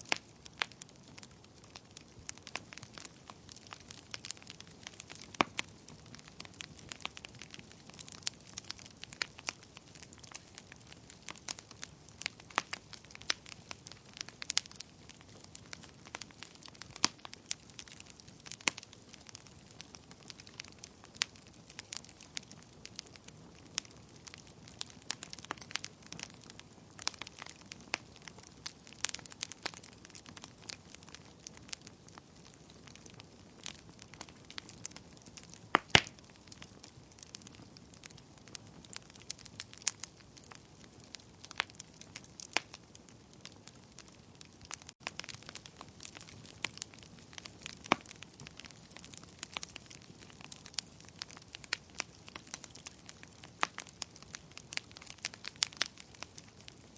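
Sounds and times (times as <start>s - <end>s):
fire crackling and popping: 0.0s - 56.9s.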